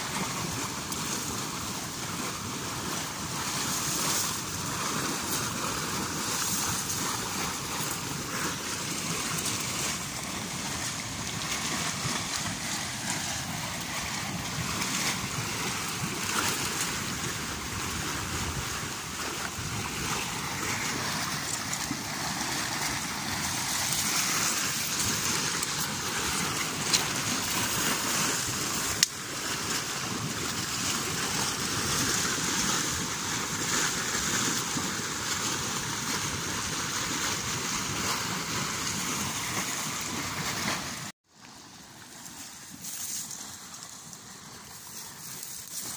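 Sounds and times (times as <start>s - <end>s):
spring water churning in pool: 0.0s - 45.9s.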